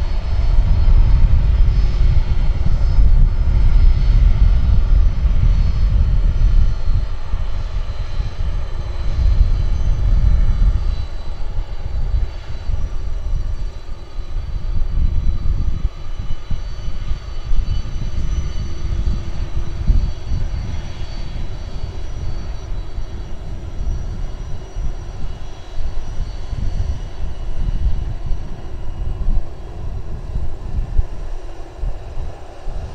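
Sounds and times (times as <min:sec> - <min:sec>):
high jet engine whine: 0:00.0 - 0:32.9
jet engines low rumble: 0:00.0 - 0:32.9.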